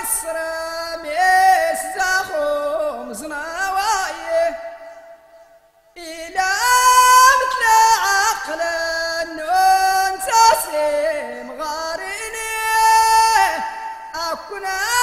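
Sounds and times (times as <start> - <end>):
person singing: 0.0 - 4.8, 6.0 - 15.0.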